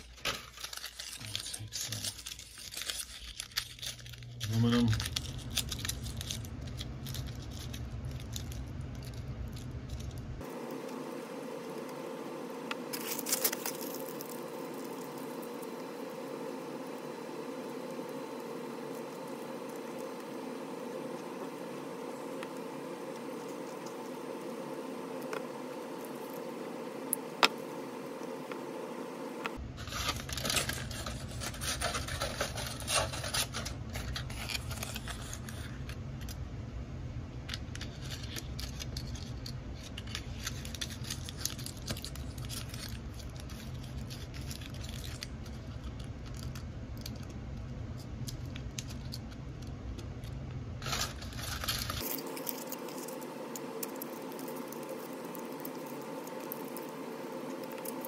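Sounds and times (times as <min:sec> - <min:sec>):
aluminium foil crinkling: 0:00.0 - 0:10.5, 0:12.8 - 0:27.9, 0:29.6 - 0:36.4, 0:37.5 - 0:58.0.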